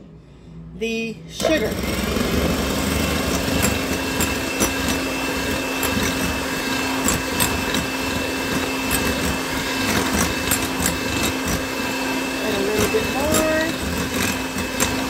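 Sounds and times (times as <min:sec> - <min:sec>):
electric hand mixer whipping eggs: 0:01.4 - 0:15.0.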